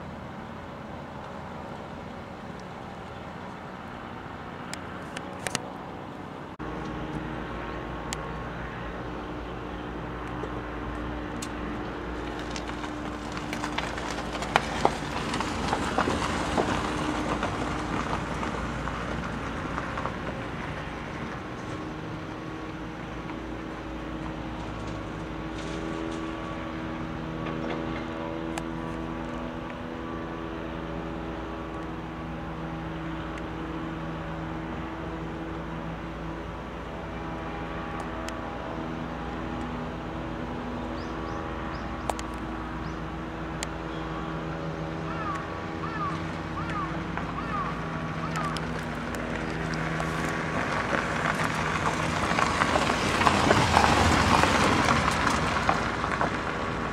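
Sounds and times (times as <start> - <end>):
distant vehicle hum: 0.0 - 56.9
vehicle passing rush: 0.0 - 56.9.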